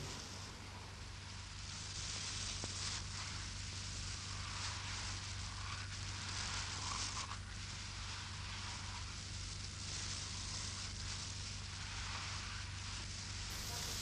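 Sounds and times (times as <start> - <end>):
low electrical hum: 0.0 - 14.0
steady hiss: 0.0 - 14.0.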